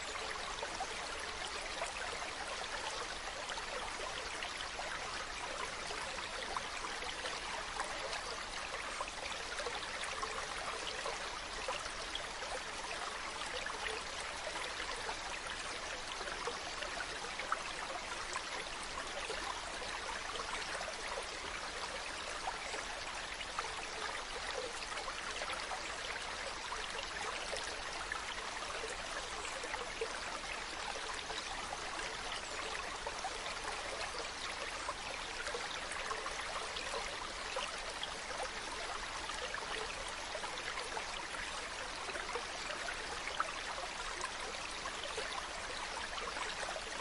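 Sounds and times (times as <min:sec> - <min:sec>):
stream babbling: 0:00.0 - 0:47.0.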